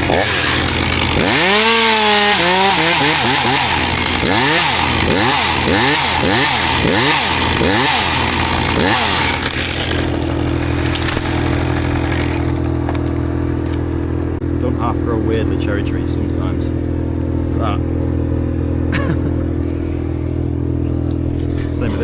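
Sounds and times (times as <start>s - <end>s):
chainsaw running: 0.0s - 14.2s, 16.2s - 22.0s
wood chipper engine drone: 0.0s - 22.0s.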